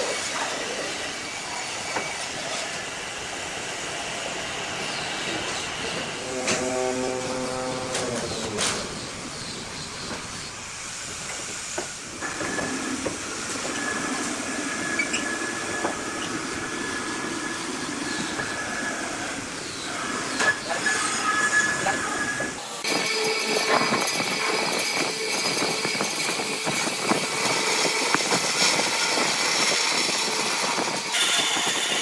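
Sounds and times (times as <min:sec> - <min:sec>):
machine noise with high whine: 0:00.0 - 0:32.0.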